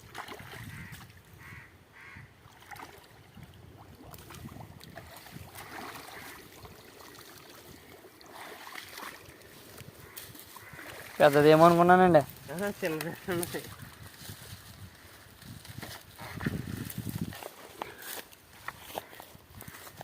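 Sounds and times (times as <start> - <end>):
water sloshing and splashing: 0.0 - 1.4, 2.3 - 20.0.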